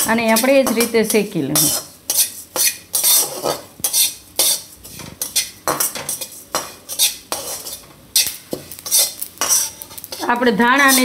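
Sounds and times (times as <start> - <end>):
spatula scraping a pan: 0.0 - 11.0.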